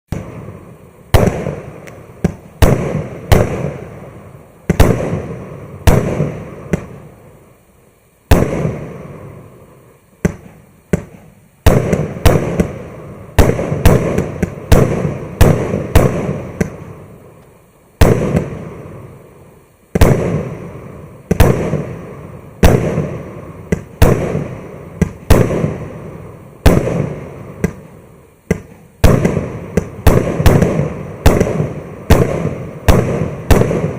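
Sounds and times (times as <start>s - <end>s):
firework battery bangs: 0.1s - 7.4s, 8.2s - 17.2s, 18.0s - 19.2s, 19.9s - 33.9s.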